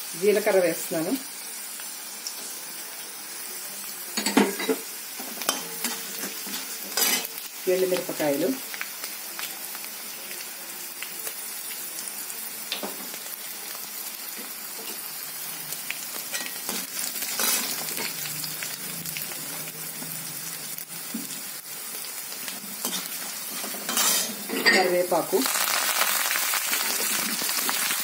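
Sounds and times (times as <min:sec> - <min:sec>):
hot oil sizzling: 0:00.0 - 0:28.0.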